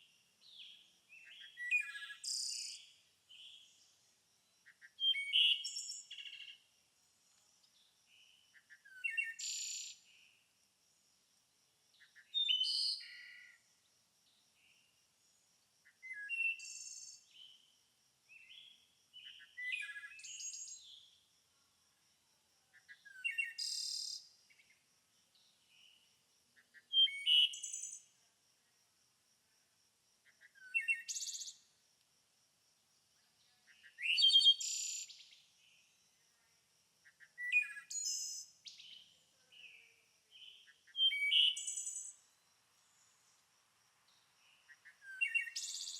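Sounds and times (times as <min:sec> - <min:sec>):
songbird singing: 0:00.0 - 0:10.6, 0:11.9 - 0:21.3, 0:22.6 - 0:28.8, 0:30.2 - 0:31.8, 0:33.0 - 0:45.9.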